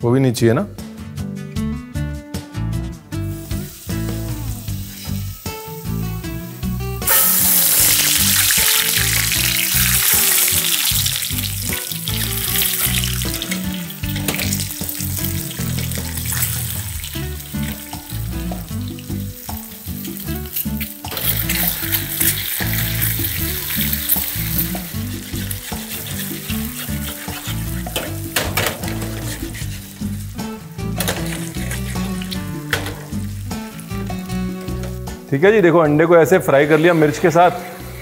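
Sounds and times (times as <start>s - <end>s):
background music: 0.0s - 38.0s
eggs sizzling in hot oil: 3.2s - 35.3s, 36.6s - 38.0s.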